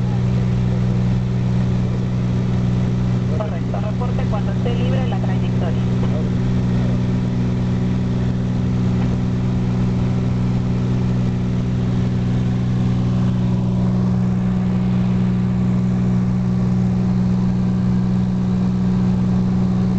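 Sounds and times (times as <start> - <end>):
propeller aircraft engine drone: 0.0 - 19.9.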